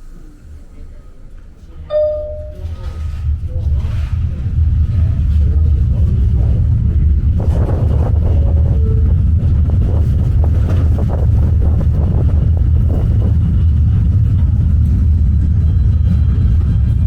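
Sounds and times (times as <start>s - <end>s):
subway train rumbling: 0.0s - 17.0s
train clattering: 1.3s - 17.0s.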